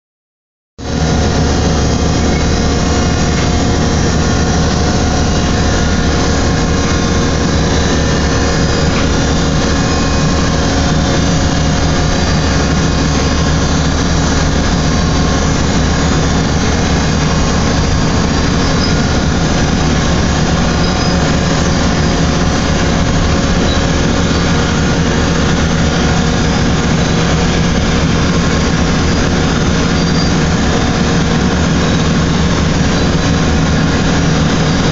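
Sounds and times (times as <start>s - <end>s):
machinery droning: 0.8s - 34.9s.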